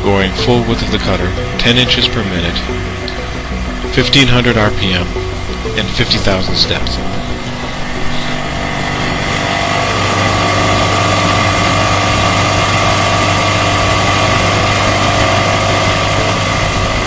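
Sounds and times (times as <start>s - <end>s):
milling machine cutting steel: 0.0s - 17.0s
whining tones: 0.0s - 17.0s.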